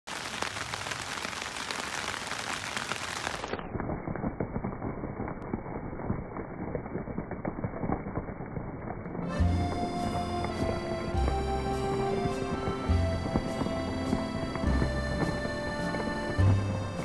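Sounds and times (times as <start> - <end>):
rain pattering on foliage: 0.0 - 17.0.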